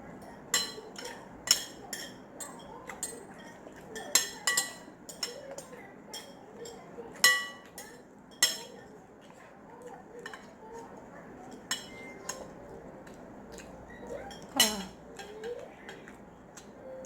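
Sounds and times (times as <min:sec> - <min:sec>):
cutlery clinking on a plate: 0:00.2 - 0:09.4, 0:10.1 - 0:16.2.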